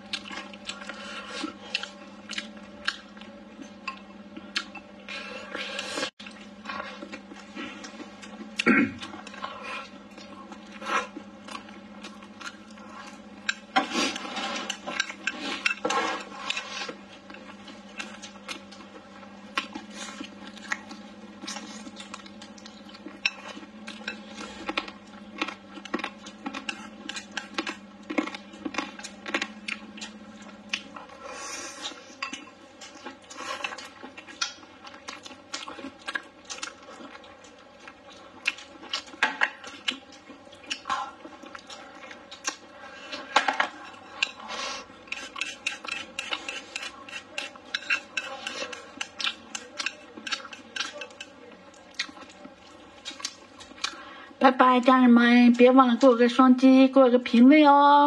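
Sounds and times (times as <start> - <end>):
chewing: 0.0 - 54.2.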